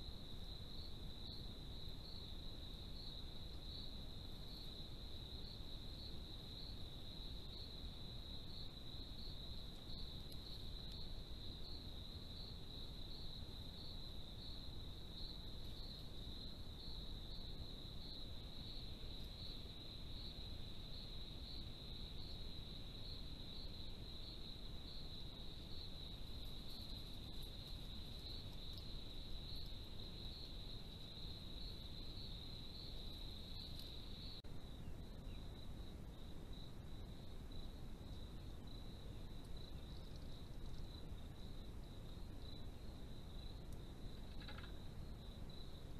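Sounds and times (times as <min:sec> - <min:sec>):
crickets chirping: 0:00.0 - 0:45.9
faint low hiss: 0:00.0 - 0:45.9.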